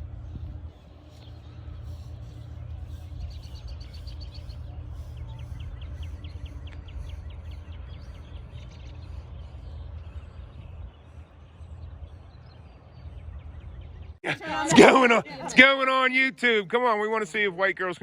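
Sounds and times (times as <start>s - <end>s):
steady low rumble: 0.0s - 15.8s
songbird chirping: 0.3s - 15.7s.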